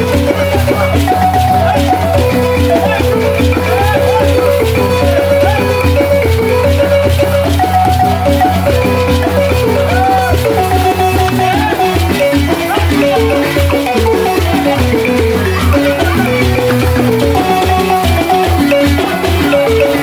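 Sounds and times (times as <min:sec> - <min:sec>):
wooden xylophones playing: 0:00.0 - 0:20.0.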